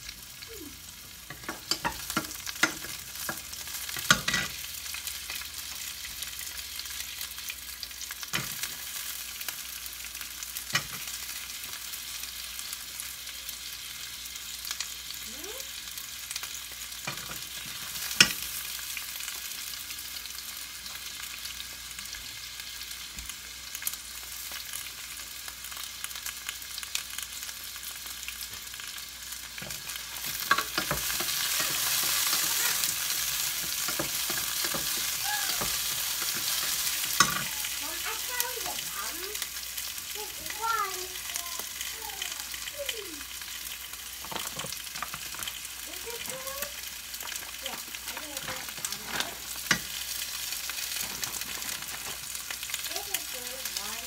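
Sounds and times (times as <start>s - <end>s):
vegetables sizzling in a pan: 0.0s - 54.0s.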